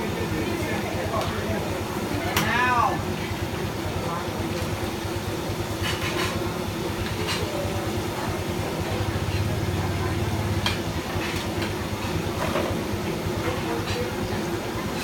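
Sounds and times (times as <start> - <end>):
gas burner flame rumble: 0.0 - 15.0.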